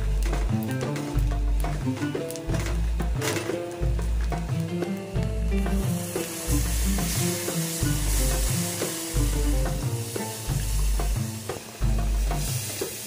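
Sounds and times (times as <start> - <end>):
background music with bass beat: 0.0 - 13.0
flour frying in fat: 0.0 - 13.0
hissing and sizzling: 0.0 - 13.0.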